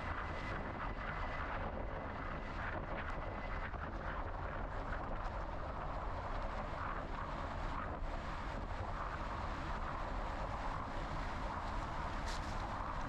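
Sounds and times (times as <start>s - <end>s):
wind rush on microphone: 0.0s - 13.0s.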